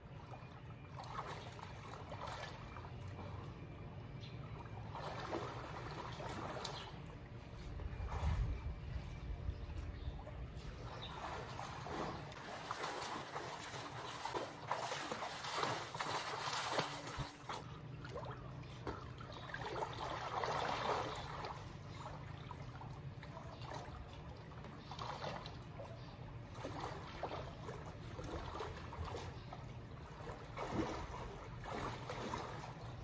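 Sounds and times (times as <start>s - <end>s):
pool water splashing from swimming: 0.0s - 9.2s, 10.1s - 33.0s.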